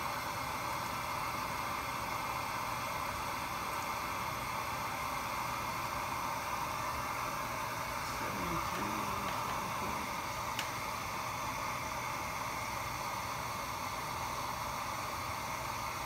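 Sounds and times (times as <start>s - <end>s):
hiss of rushing air: 0.0s - 16.0s.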